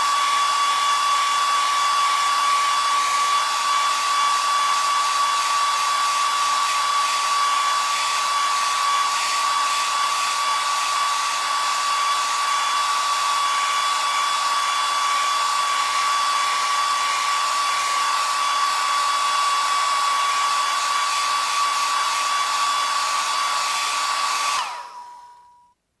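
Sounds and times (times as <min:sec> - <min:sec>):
hair dryer running: 0:00.0 - 0:25.7.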